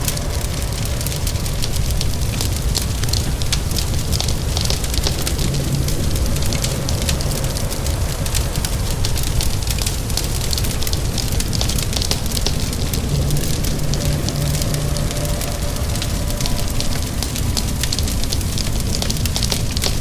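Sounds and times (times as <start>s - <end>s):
rain falling: 0.0s - 20.0s
steady low rumble: 0.0s - 20.0s
wood fire crackling: 0.0s - 20.0s.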